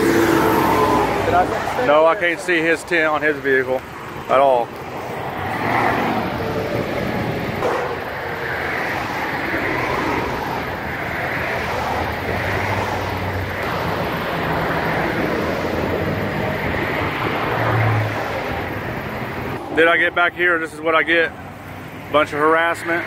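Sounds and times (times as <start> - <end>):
highway traffic roar: 0.0 - 23.0.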